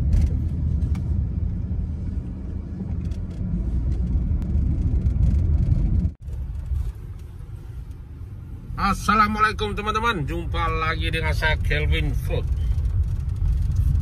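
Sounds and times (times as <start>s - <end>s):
vehicle rumble and road noise: 0.0s - 14.0s.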